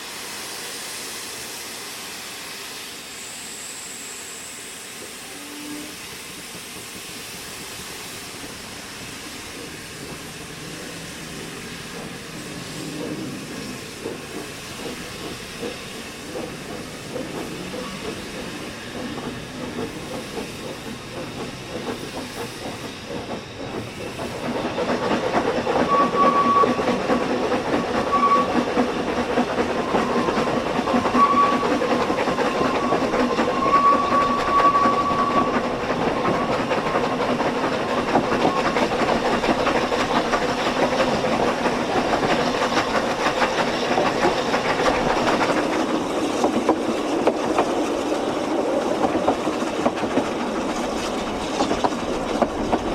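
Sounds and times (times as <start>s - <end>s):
steam hiss: 0.0s - 52.9s
train wheels clattering on rails: 4.8s - 52.9s.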